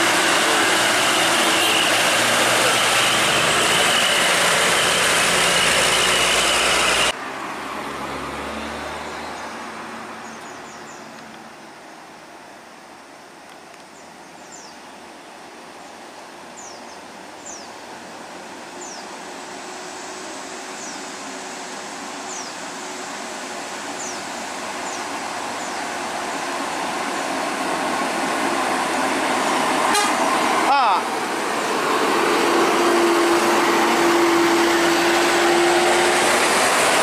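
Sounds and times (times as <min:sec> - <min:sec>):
bus diesel engine and tyres: 0:00.0 - 0:37.0.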